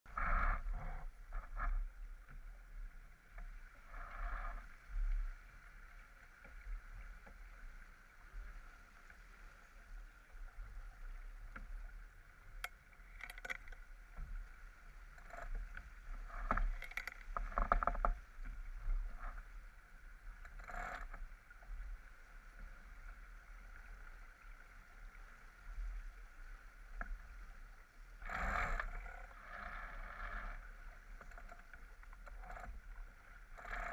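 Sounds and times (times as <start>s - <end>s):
water rushing along hull: 0.1s - 33.9s.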